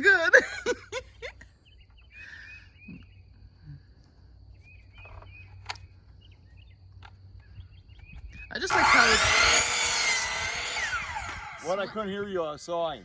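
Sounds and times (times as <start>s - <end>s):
small birds chirping: 0.9s - 13.0s.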